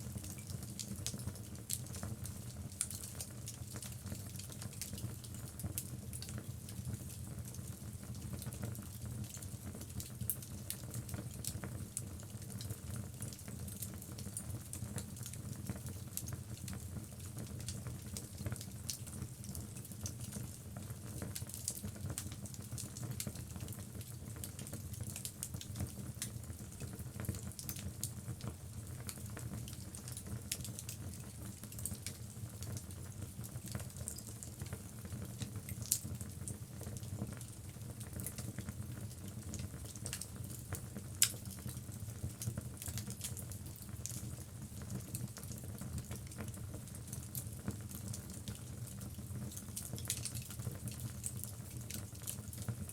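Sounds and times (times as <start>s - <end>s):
fire crackling and popping: 0.1s - 52.9s.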